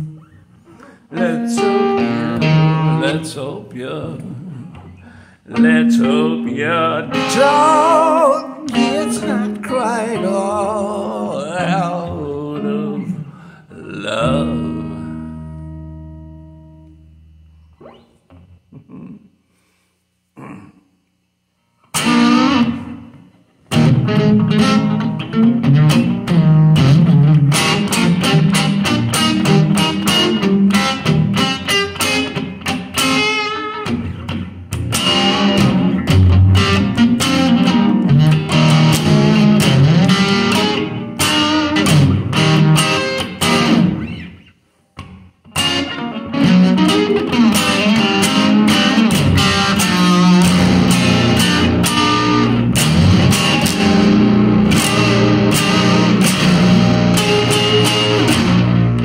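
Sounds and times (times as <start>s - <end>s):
rapidly picked guitar: 0.0s - 19.3s, 21.6s - 59.0s.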